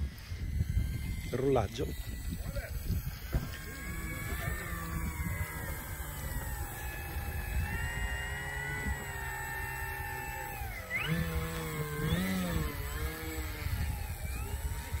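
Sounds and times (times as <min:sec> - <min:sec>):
model plane motor whine: 0:00.0 - 0:15.0
wind rumbling on microphone: 0:00.0 - 0:15.0.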